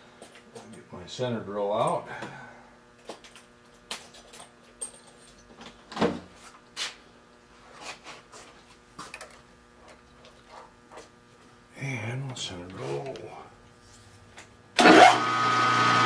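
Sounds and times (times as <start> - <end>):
faint steady hum: 0.0 - 14.8.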